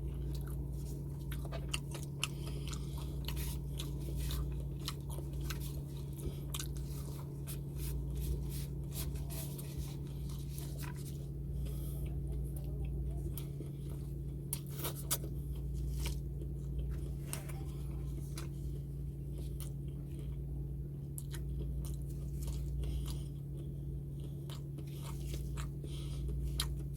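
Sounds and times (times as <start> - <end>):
low hum: 0.0 - 26.9
person chewing crunchy food: 0.0 - 26.9.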